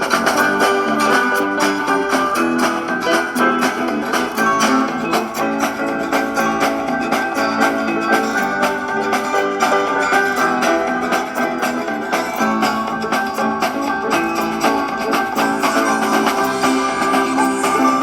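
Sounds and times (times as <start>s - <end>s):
plucked acoustic guitar music: 0.0s - 18.0s.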